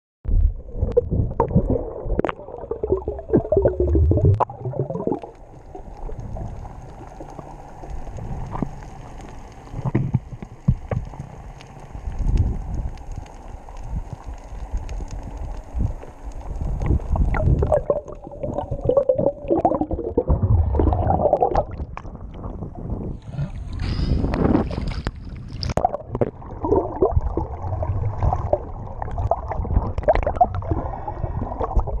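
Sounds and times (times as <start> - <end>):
low churning rumble: 0.3 - 32.0
underwater gurgling and sloshing: 0.3 - 32.0
fizzing rush of bubbles: 0.6 - 10.0, 12.0 - 22.9, 23.7 - 32.0.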